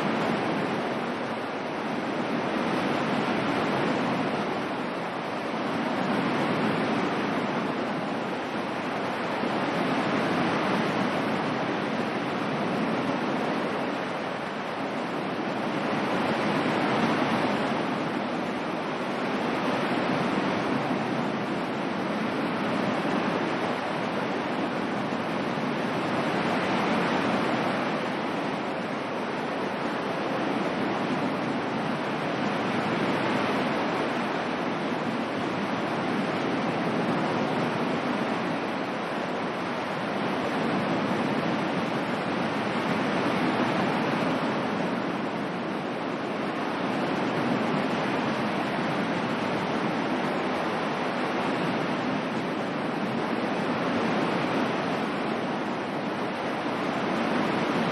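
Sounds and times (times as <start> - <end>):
ocean waves washing on shore: 0.0 - 57.9.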